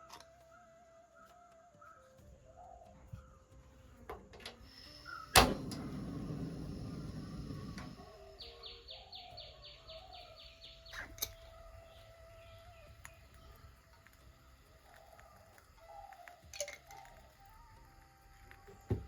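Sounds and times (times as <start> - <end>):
birds calling: 0.0 - 17.3.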